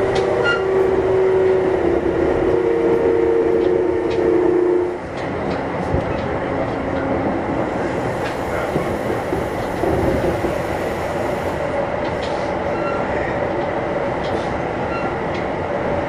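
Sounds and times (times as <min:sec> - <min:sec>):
rail joint clicks: 0:00.0 - 0:02.3, 0:03.4 - 0:15.9
train wheels rumbling on rail: 0:00.0 - 0:16.0.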